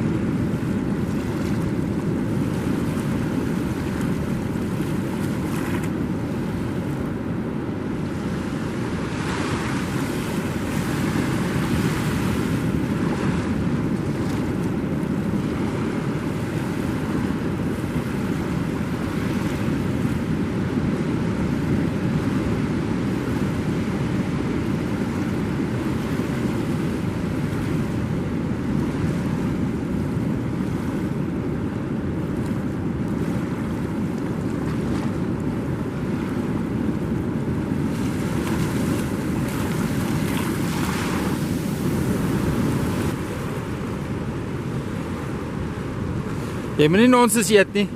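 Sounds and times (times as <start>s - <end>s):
surf washing on beach: 0.0s - 47.9s
wind buffeting microphone: 0.0s - 47.9s.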